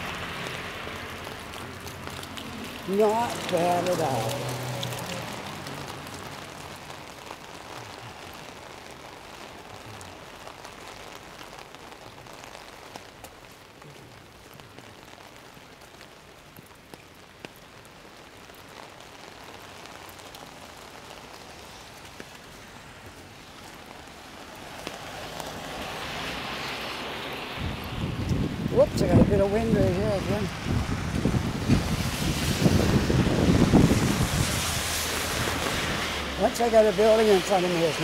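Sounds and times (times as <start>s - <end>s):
heavy rain on an umbrella: 0.0s - 38.0s.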